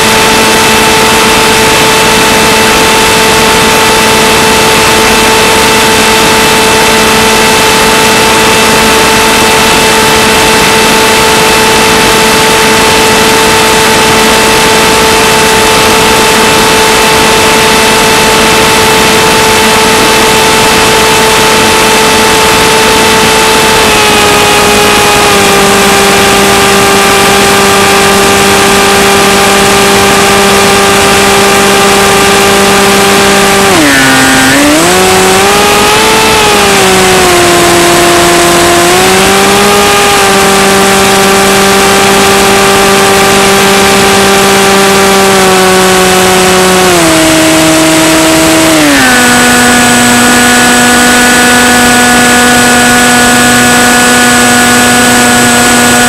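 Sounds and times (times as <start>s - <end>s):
model plane motor whine: 0.0s - 56.0s.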